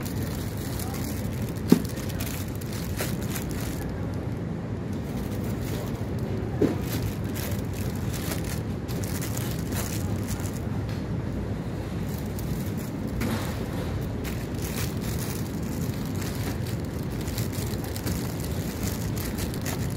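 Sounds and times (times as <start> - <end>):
cellophane crinkling: 0.0 - 4.3, 5.0 - 10.8, 12.0 - 19.9
low background rumble: 0.0 - 19.9.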